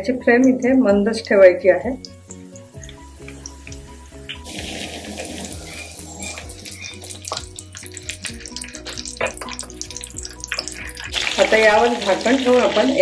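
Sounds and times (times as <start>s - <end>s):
background music: 0.0s - 13.0s
food sizzling in hot oil: 0.3s - 13.0s.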